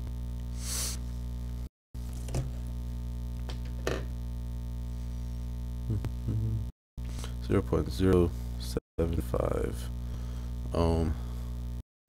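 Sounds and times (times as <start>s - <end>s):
electrical mains hum: 0.0s - 11.8s.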